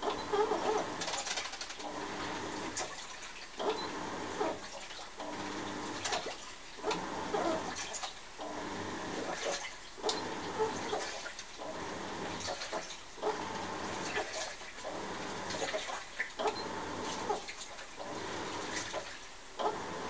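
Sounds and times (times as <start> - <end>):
washing machine sloshing water: 0.0 - 20.0.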